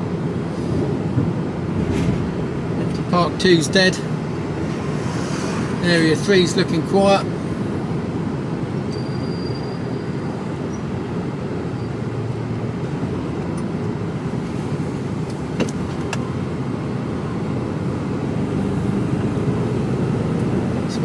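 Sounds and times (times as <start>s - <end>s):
low engine and road rumble: 0.0s - 21.0s.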